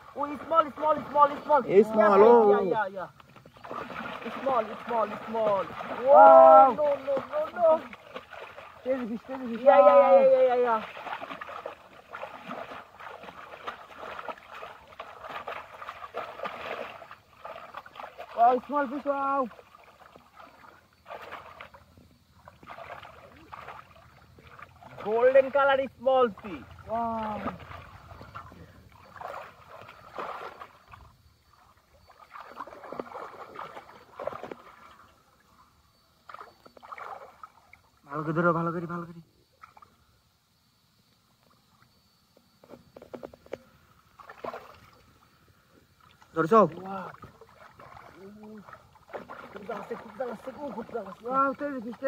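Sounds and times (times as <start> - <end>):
pond water sloshing and splashing: 0.0 - 52.0.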